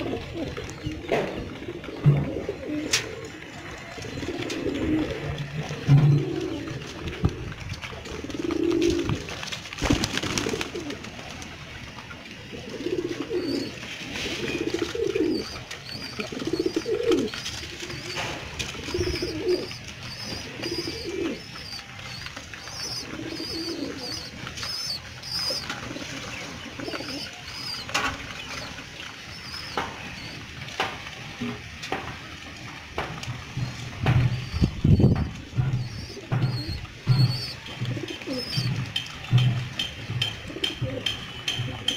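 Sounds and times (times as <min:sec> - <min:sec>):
pigeons cooing: 0:00.0 - 0:31.7, 0:32.8 - 0:41.9.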